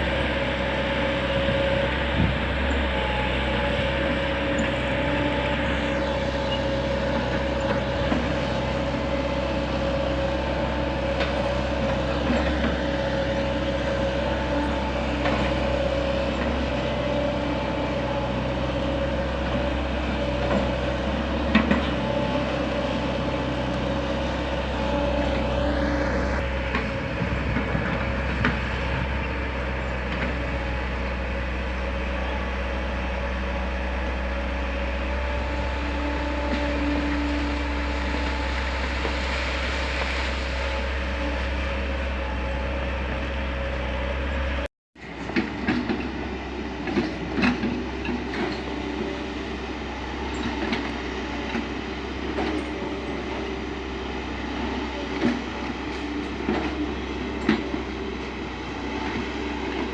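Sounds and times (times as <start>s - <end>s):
excavator diesel engine humming: 0.0s - 59.9s.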